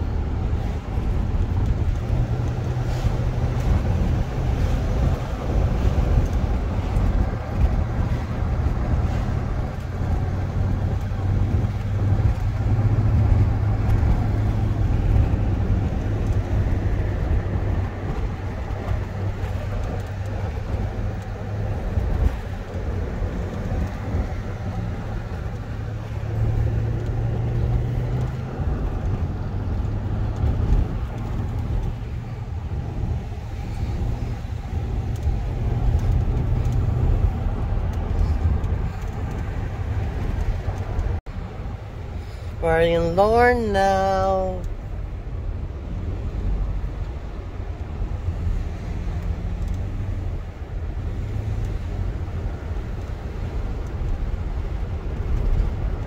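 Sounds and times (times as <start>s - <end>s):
car engine hum: 0.0s - 56.0s
road rumble: 0.0s - 56.0s.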